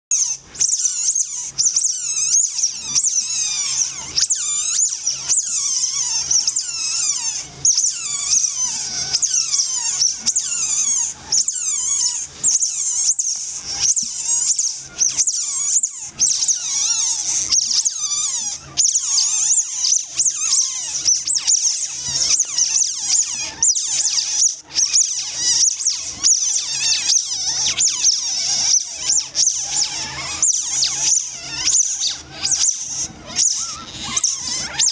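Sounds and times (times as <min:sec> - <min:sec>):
otter pups squeaking: 0:00.1 - 0:34.9.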